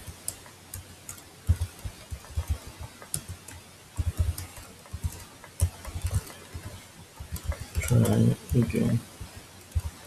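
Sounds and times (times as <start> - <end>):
keyboard typing clicks: 0.3 - 8.9.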